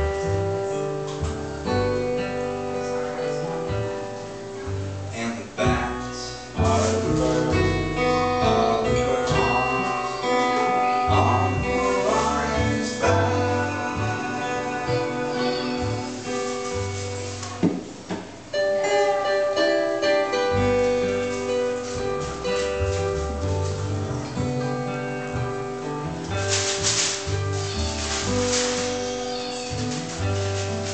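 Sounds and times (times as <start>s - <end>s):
acoustic guitars strummed and picked: 0.0s - 30.9s
plucked double bass: 0.0s - 30.9s.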